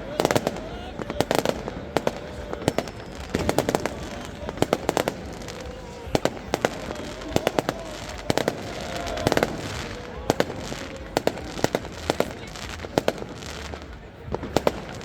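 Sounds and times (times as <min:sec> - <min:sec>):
fireworks and firecrackers banging: 0:00.0 - 0:15.0
steady background din: 0:00.0 - 0:15.0.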